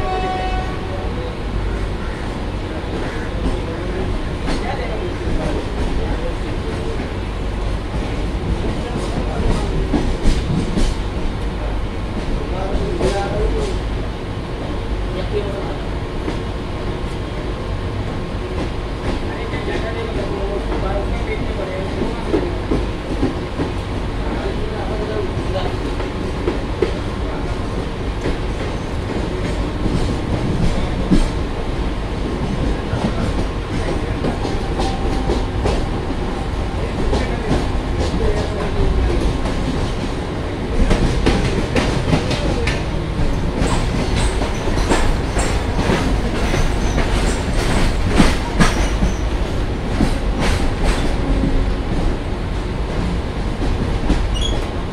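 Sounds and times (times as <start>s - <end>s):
train wheels rumbling: 0.0s - 54.9s.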